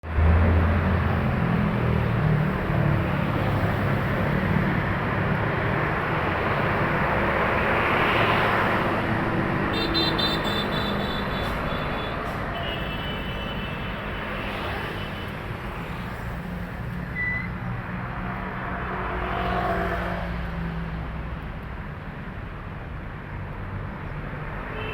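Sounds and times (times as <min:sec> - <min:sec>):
heavy road traffic rumble: 0:00.0 - 0:24.9.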